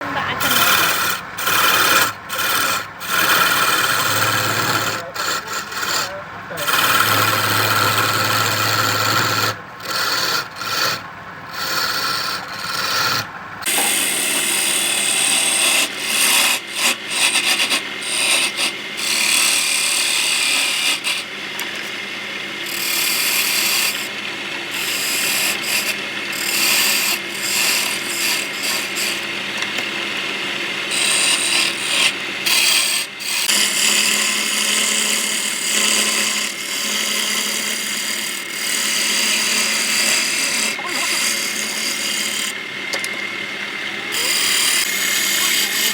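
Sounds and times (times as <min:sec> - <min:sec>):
tools rasping wood: 0:00.0 - 0:45.9.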